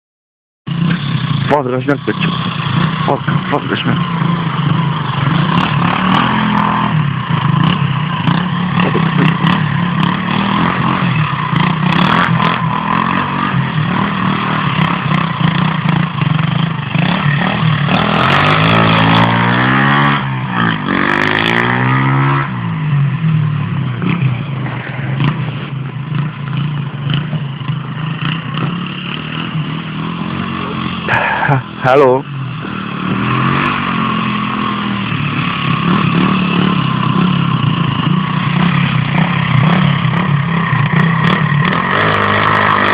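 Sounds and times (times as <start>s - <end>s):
dirt bike engine revving: 0.7s - 42.9s.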